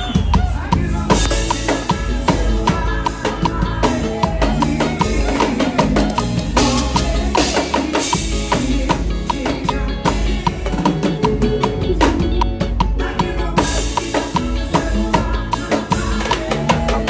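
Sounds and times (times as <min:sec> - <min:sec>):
band backing track: 0:00.0 - 0:17.0
drum kit swing groove: 0:00.0 - 0:17.0.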